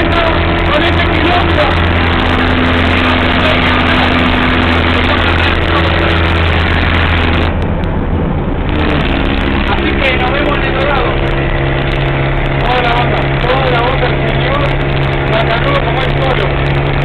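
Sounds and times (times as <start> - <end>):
vehicle engine drone: 0.0 - 17.0
wind and road noise: 0.0 - 17.0.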